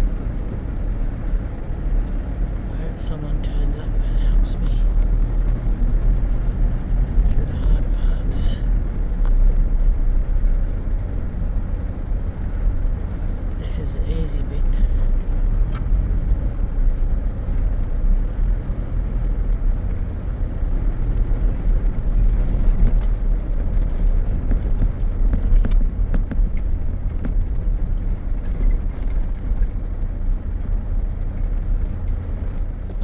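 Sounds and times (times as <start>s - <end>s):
vehicle driving on dirt track: 0.0s - 33.0s.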